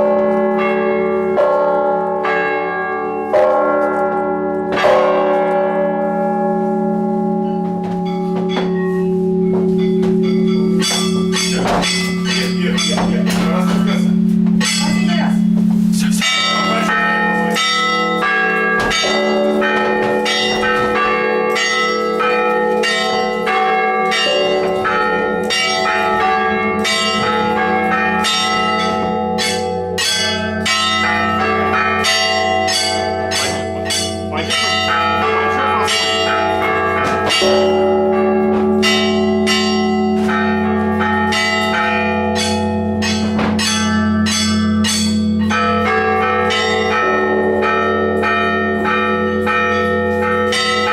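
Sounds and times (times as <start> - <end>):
large bells humming: 0.0 - 50.9
small church bells struck quickly: 0.0 - 50.9.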